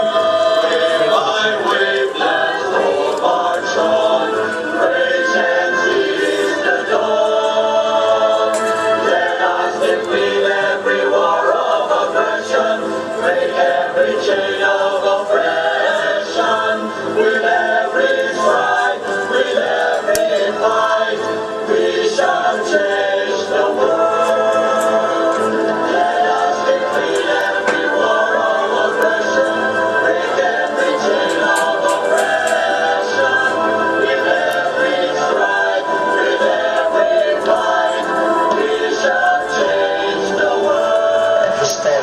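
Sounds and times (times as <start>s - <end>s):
choir singing sustained notes: 0.0s - 42.0s.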